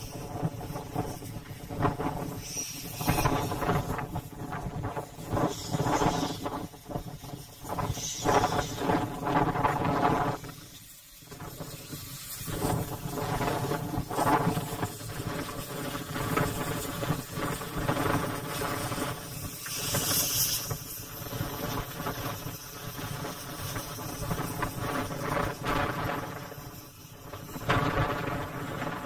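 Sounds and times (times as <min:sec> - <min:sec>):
steam hiss: 0:00.0 - 0:29.0
steam locomotive chuffing: 0:00.0 - 0:29.0.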